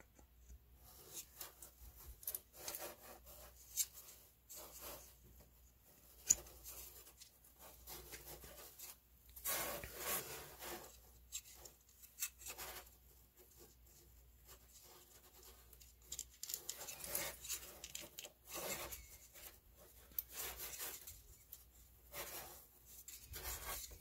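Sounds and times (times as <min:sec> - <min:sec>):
rubbing and scraping of housing: 0:00.8 - 0:24.0.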